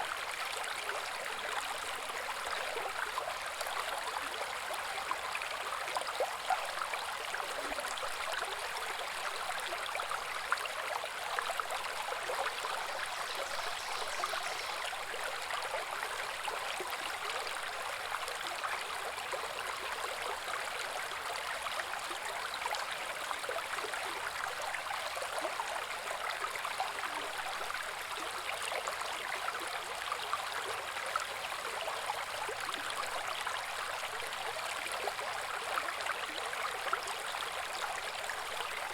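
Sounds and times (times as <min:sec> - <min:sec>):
brook babbling over rocks: 0:00.0 - 0:38.9.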